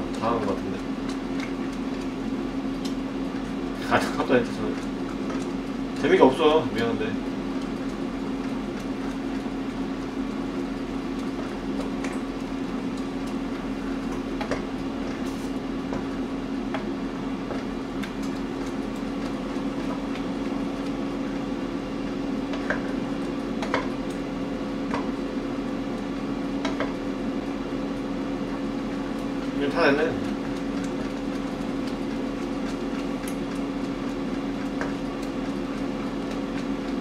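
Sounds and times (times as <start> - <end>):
air fryer fan hum: 0.0 - 37.0.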